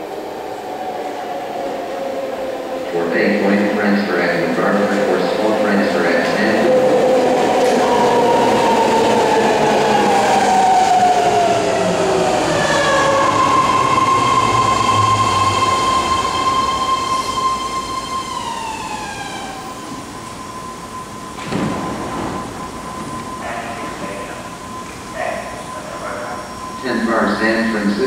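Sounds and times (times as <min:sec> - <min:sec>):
electric train braking whine: 0:00.1 - 0:28.0.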